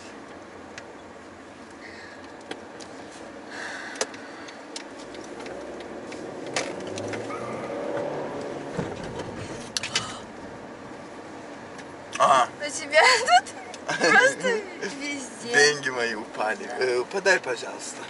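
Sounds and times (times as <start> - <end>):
car cabin noise: 0.0 - 18.0.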